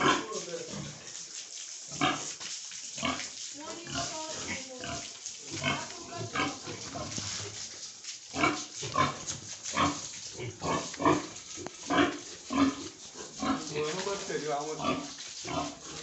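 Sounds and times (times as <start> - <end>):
pigs grunting and squealing: 0.0 - 1.1, 1.9 - 2.4, 3.0 - 7.2, 8.3 - 16.0.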